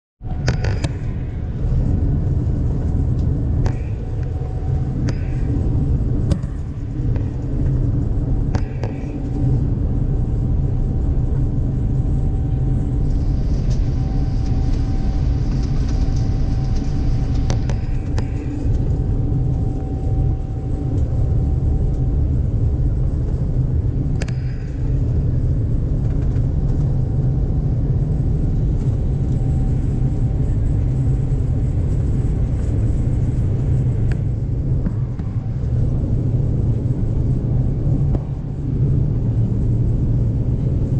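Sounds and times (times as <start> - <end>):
jet engines rumbling at takeoff: 0.2 - 40.9.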